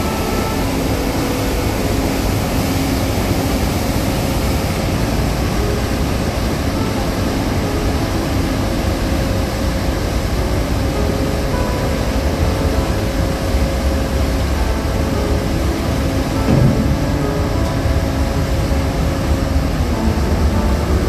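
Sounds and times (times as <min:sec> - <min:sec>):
deep ship engine rumble: 0:00.0 - 0:21.0
propeller wash churning water: 0:00.0 - 0:21.0.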